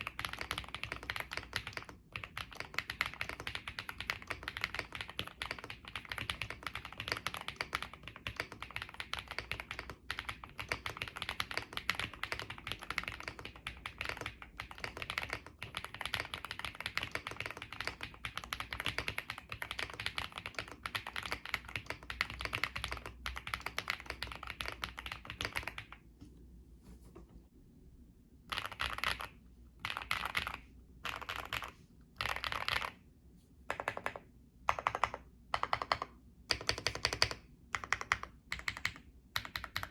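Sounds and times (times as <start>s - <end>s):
mechanical keyboard typing: 0.0s - 26.0s, 28.5s - 33.0s, 33.7s - 39.9s.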